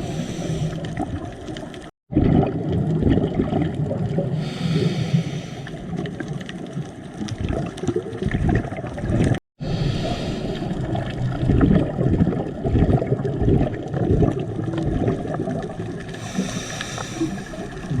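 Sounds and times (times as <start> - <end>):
faint underwater clicks: 0.0 - 1.9, 3.5 - 9.4, 10.4 - 18.0
underwater rumbling water noise: 0.0 - 18.0.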